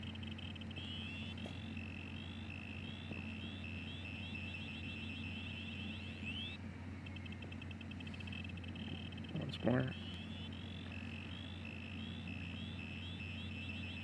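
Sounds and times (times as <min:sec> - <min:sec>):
piezo buzzer beeps and chirps: 0:00.0 - 0:14.0.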